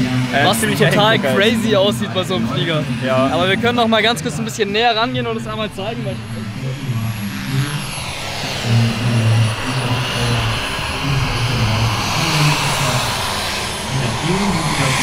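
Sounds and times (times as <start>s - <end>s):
model aircraft engine drone: 0.0s - 15.0s.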